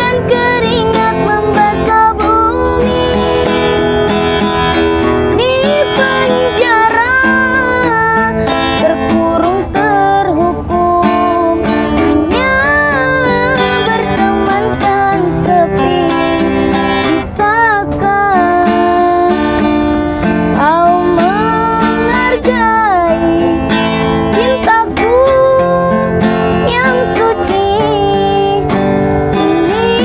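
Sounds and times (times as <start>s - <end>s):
woman singing a pop ballad: 0.0s - 3.9s, 5.3s - 30.0s
strummed acoustic guitar: 0.0s - 30.0s.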